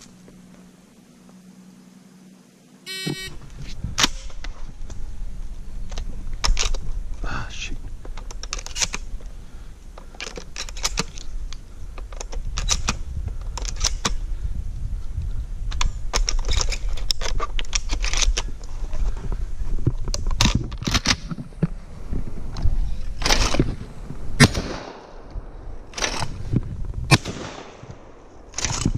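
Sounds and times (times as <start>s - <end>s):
wind rumbling on microphone: 3.2s - 28.9s.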